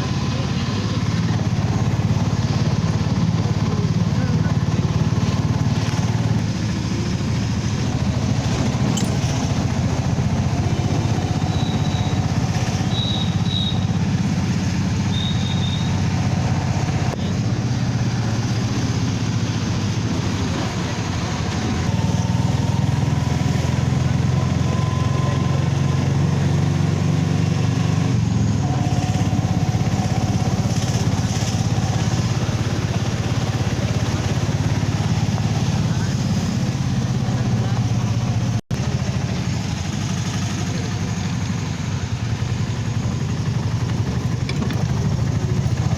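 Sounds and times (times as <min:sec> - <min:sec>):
road noise: 0:00.0 - 0:45.9
vehicle engine running: 0:00.0 - 0:45.9.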